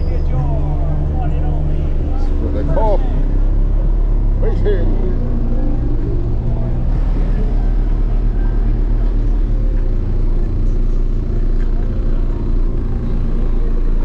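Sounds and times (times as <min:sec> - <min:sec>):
deep bass from car subwoofers: 0:00.0 - 0:14.0
faint voices of people: 0:00.0 - 0:14.0.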